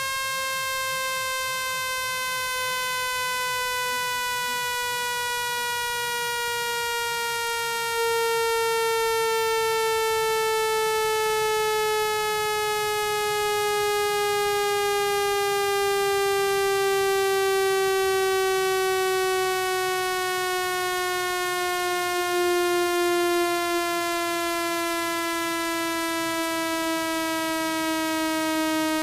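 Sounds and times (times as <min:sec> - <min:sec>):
buzzy electronic tone sliding down: 0:00.0 - 0:29.0.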